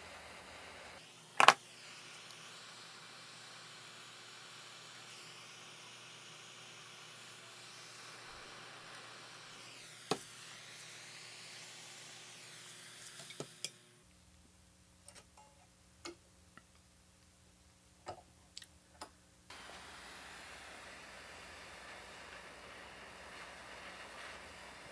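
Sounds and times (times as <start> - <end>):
faint steady hiss: 0.0 - 24.9.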